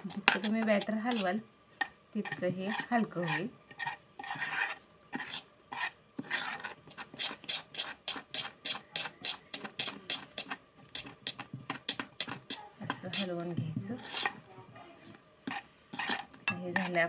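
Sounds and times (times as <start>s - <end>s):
spoon beating batter in metal pot: 0.0s - 17.0s.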